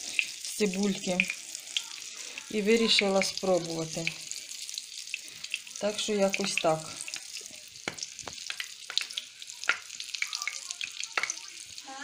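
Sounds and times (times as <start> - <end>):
oil popping and crackling: 0.0 - 12.0
onion rings frying in oil: 0.0 - 12.0.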